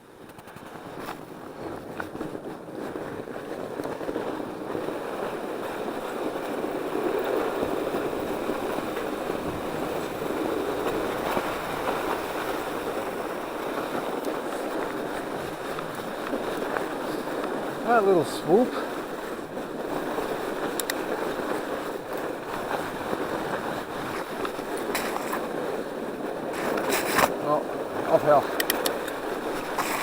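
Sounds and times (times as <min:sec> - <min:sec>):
tyre noise on snow: 0:00.6 - 0:30.0.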